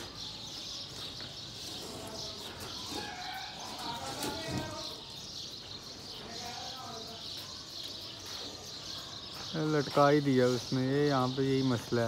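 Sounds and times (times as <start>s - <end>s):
birds chirping: 0.0s - 12.0s
distant voices: 0.0s - 12.0s.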